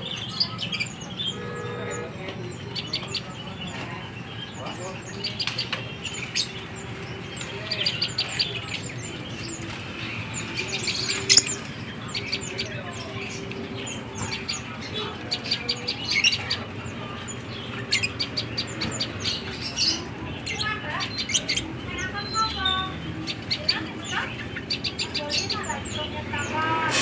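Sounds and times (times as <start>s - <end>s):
low background murmur: 0.0s - 27.0s
songbirds chirping: 0.0s - 27.0s.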